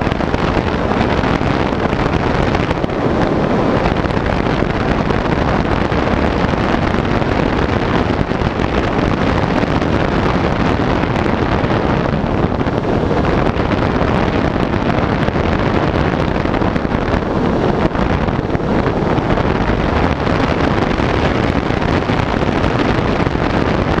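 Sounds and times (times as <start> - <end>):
electric motor and propeller: 0.0 - 24.0
wind buffeting microphone: 0.0 - 24.0.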